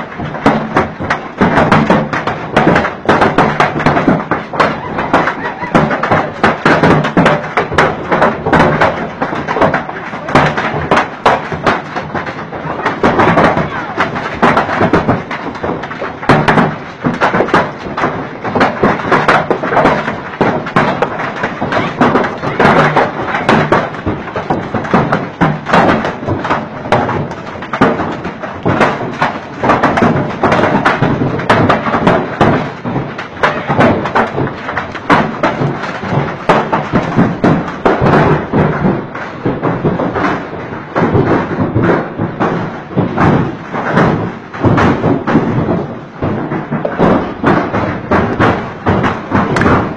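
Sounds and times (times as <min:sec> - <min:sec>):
hailstones pelting down: 0:00.0 - 0:49.9.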